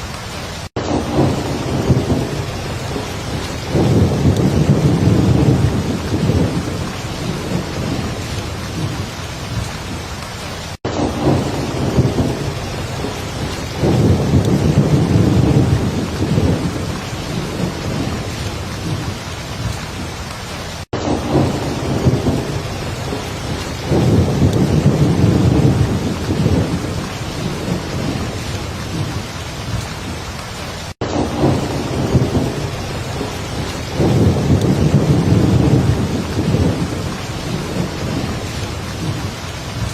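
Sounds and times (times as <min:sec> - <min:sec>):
heavy rain falling: 0:00.0 - 0:39.9
low thunder rumbles: 0:00.5 - 0:39.9.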